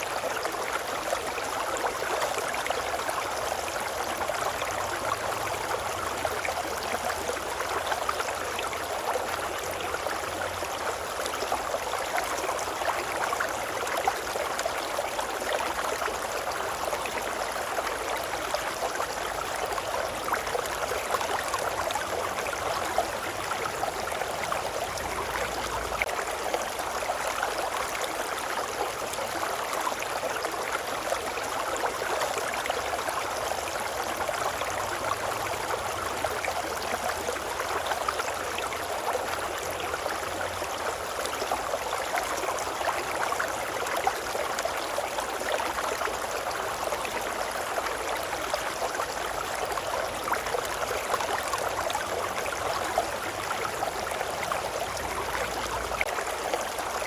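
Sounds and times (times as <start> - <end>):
brook water babbling: 0.0 - 57.0.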